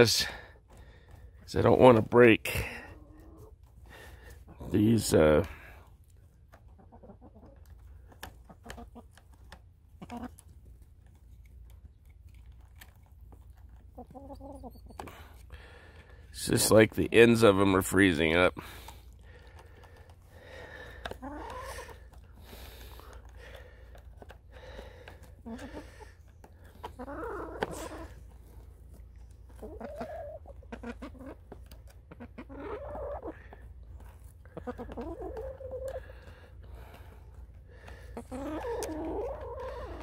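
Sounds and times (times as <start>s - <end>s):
hens clucking: 0.0s - 40.0s.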